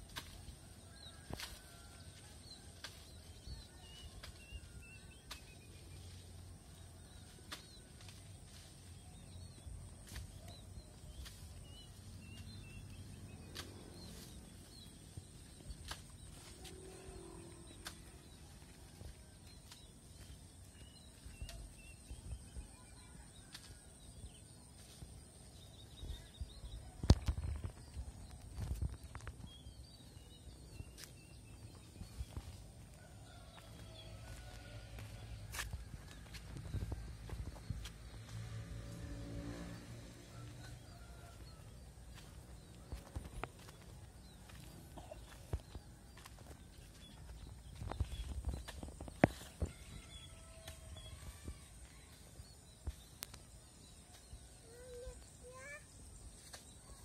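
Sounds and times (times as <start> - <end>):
small birds chirping: 2.6 - 39.0, 40.3 - 57.0.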